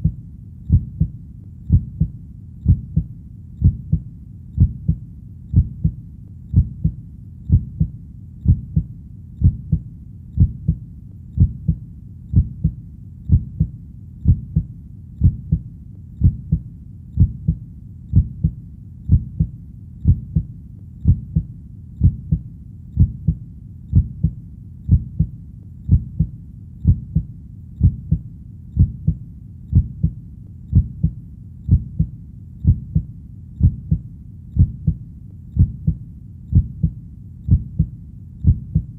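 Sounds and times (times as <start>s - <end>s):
heartbeat thuds: 0.0s - 38.9s.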